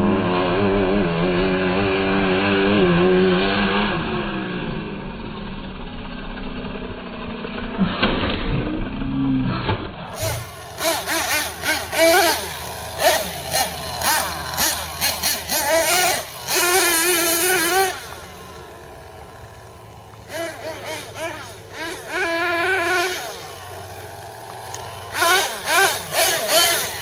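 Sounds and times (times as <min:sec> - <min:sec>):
engine throttle bursts: 0:00.0 - 0:27.0
rc truck nitro engine: 0:00.0 - 0:27.0.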